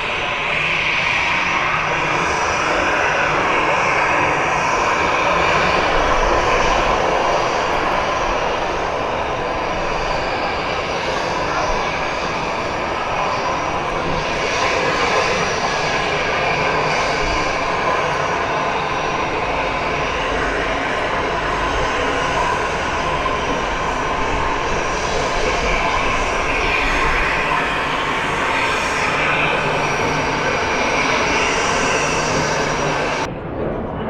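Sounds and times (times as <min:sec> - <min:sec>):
jet engines rushing: 0:00.0 - 0:34.0.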